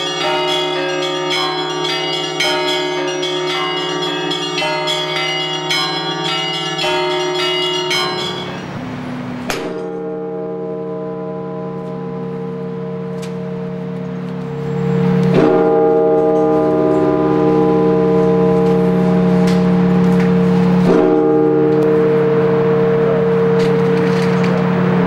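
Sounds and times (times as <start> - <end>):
church bell strikes ringing: 0.0 - 25.0.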